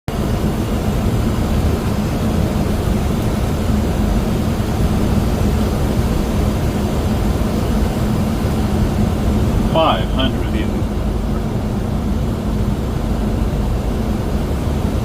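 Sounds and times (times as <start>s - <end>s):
aircraft engine hum: 0.1s - 15.0s
airflow in cockpit: 0.1s - 15.0s.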